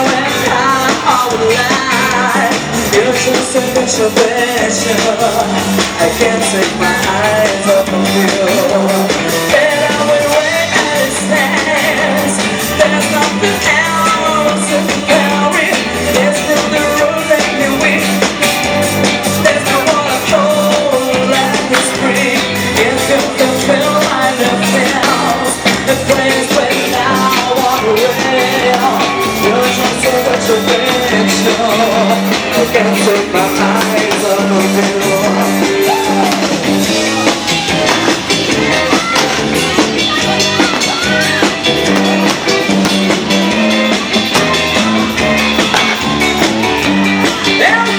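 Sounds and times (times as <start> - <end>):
live band playing pop-rock: 0.0 - 47.9.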